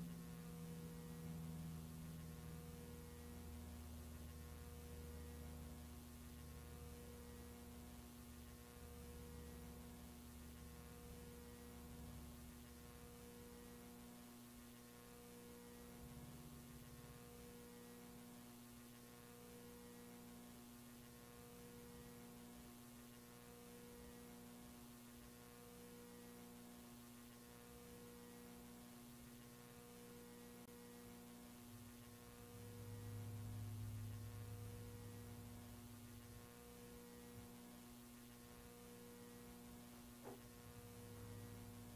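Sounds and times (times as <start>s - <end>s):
lower hum: 0.0s - 26.8s, 27.4s - 41.9s
faint pulsing electrical hum: 0.0s - 41.9s.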